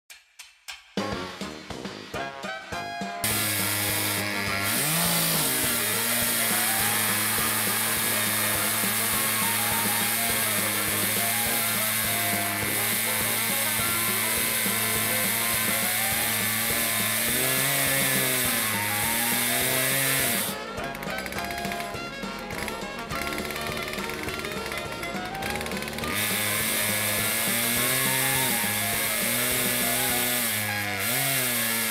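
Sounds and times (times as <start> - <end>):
chainsaw cutting through log: 3.2 - 31.9.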